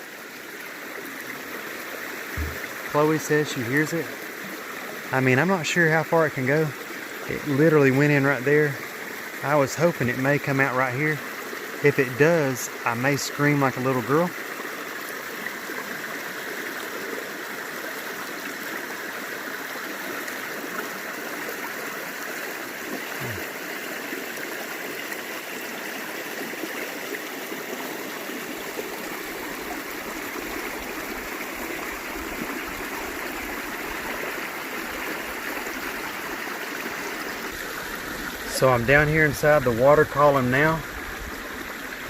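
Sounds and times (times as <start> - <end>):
creek rushing over rocks: 0.0 - 42.0.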